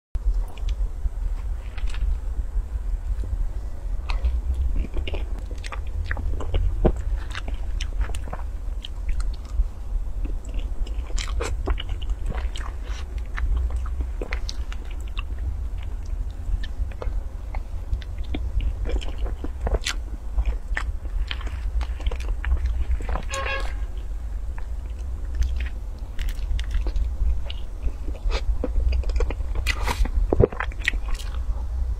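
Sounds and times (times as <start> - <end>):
steady low hum: 0.2 - 31.9
wet chewing and mouth clicks: 0.3 - 2.2, 4.0 - 31.5.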